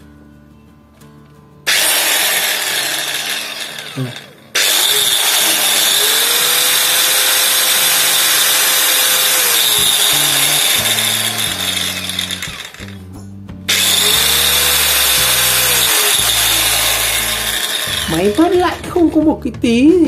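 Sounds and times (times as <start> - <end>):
angle grinder whining: 1.7 - 19.3.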